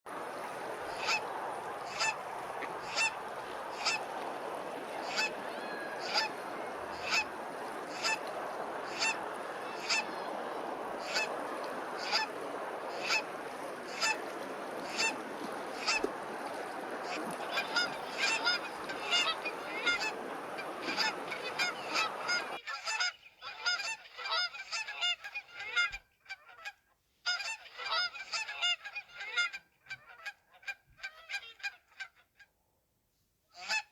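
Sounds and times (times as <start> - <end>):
geese honking: 0.3 - 26.4, 27.3 - 30.4.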